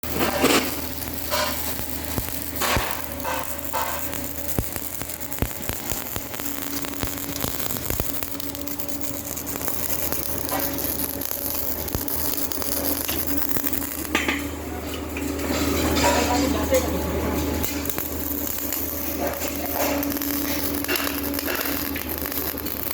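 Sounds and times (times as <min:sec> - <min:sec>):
welding arc crackling: 0:00.0 - 0:22.9.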